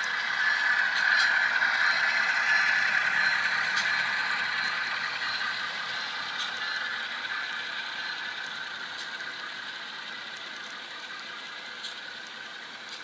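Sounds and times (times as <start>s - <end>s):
model train motors whirring: 0.0s - 13.0s
wheels clicking on track: 0.0s - 13.0s.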